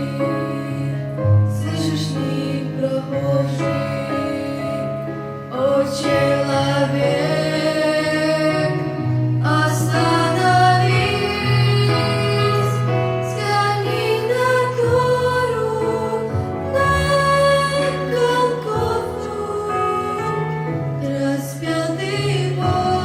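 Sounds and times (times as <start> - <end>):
sustained accompaniment: 0.0 - 23.0.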